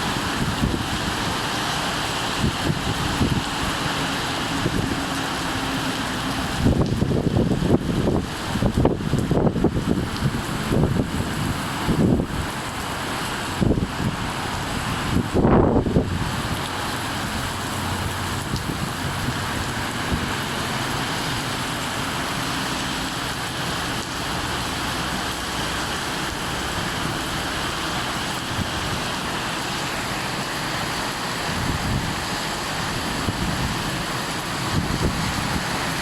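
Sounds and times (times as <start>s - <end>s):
heavy rain hissing: 0.0s - 36.0s.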